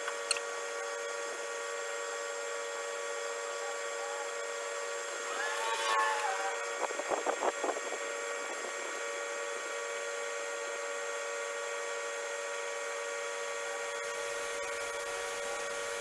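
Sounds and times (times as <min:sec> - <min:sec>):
steady multi-tone hum: 0:00.0 - 0:16.0.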